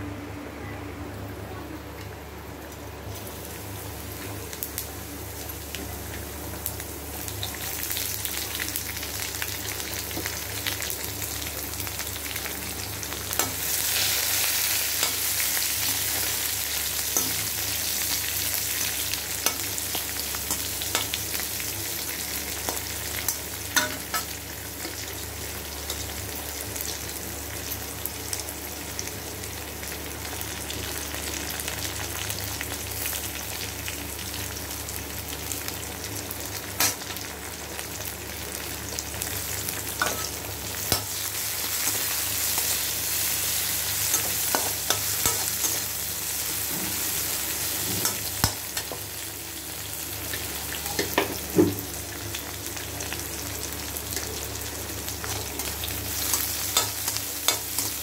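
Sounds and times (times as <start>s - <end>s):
oil sizzling in pan: 2.6s - 58.0s.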